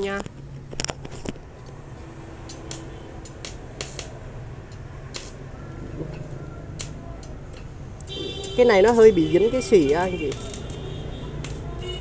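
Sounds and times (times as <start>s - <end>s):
welding rod clicking and scraping: 0.0s - 1.8s, 2.4s - 9.2s, 10.3s - 11.8s.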